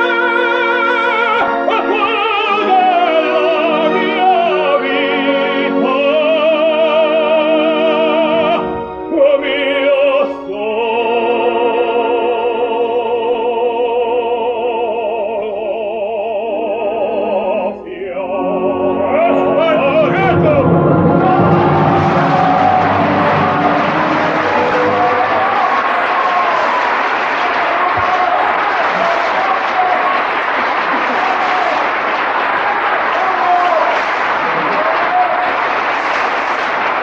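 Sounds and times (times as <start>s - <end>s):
orchestra: 0.0s - 15.6s, 16.6s - 37.0s
operatic singing: 0.0s - 35.8s.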